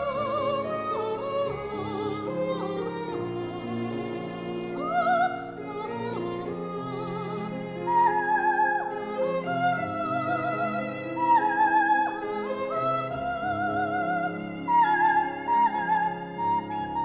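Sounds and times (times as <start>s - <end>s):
soprano singing opera: 0.0s - 17.0s.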